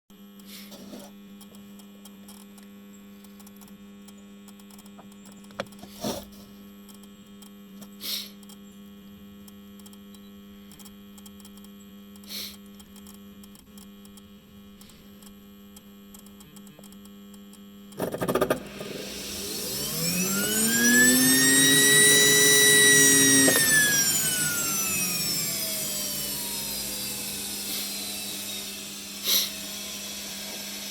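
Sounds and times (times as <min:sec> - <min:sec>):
heating unit electrical hum: 0:00.1 - 0:30.9.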